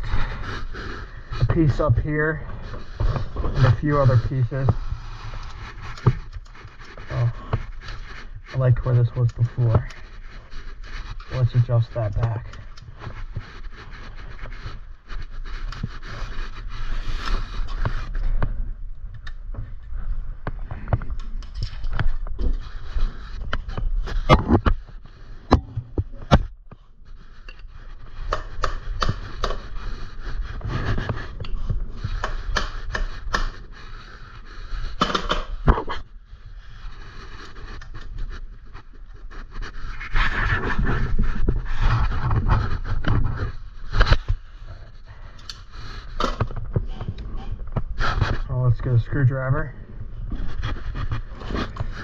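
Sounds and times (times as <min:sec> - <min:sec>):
bike parts clicking and scraping: 0:00.0 - 0:49.4.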